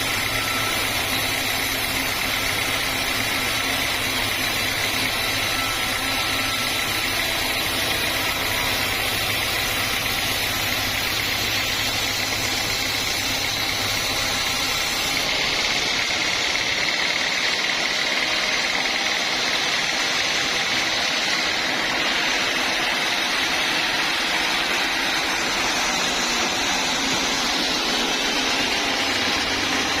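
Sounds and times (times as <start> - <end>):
band sawmill running: 0.0 - 30.0.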